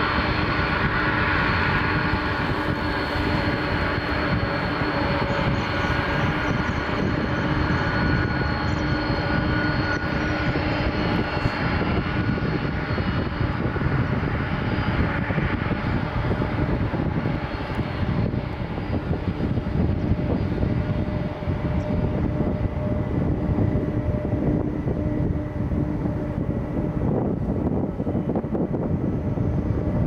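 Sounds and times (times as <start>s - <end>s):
aircraft engines rumbling: 0.0s - 30.0s
steady engine whine: 0.0s - 30.0s.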